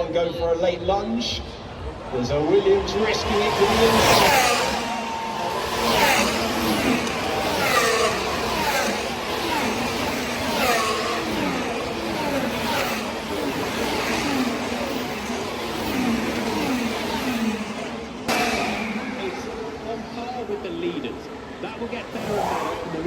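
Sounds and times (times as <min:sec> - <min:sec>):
racing cars passing at high speed: 0:00.8 - 0:23.0.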